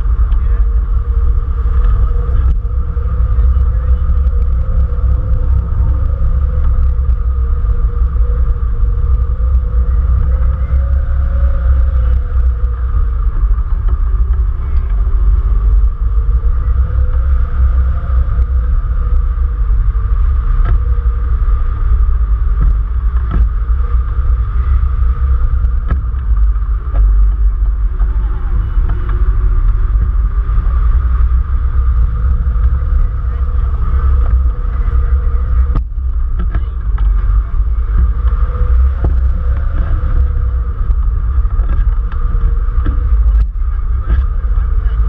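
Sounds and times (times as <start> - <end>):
wind rumble on microphone: 0.0 - 45.0.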